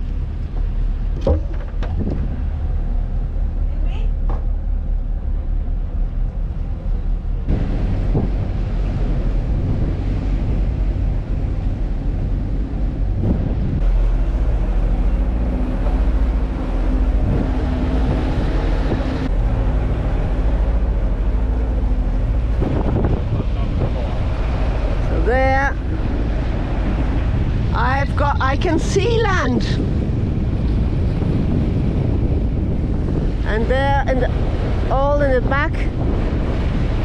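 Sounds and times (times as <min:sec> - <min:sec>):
boat engine running: 0:00.0 - 0:37.0
water noise: 0:00.0 - 0:37.0
wind buffeting microphone: 0:00.0 - 0:37.0.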